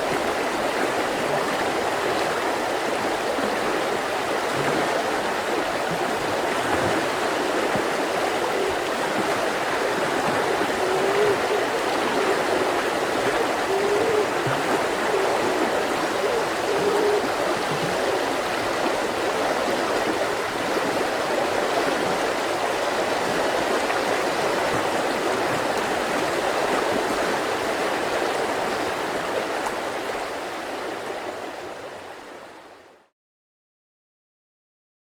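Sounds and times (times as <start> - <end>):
river rushing: 0.0 - 32.6.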